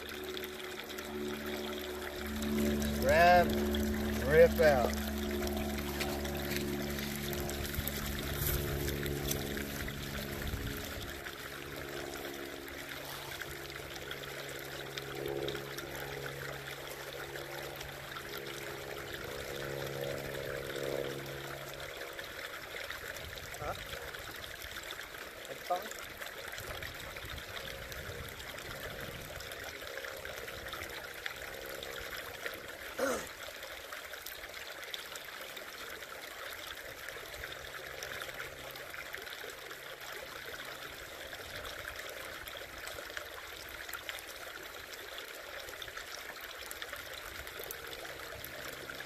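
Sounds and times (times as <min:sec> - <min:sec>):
creek trickling over rocks: 0:00.0 - 0:49.0.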